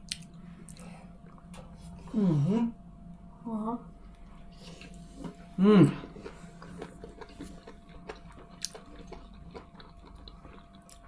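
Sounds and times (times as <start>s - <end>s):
people chewing: 0.0s - 2.5s, 4.1s - 11.0s.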